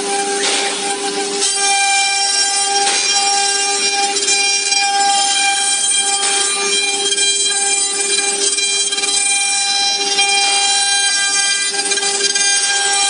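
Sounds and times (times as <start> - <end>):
bit cutting wood: 0.0 - 13.0
router spindle whine: 0.0 - 13.0.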